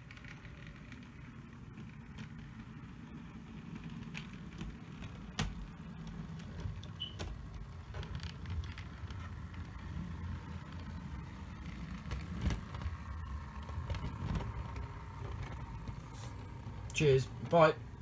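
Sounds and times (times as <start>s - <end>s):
model train motor rumble: 0.0s - 18.0s
wheels clicking on rails: 0.0s - 18.0s.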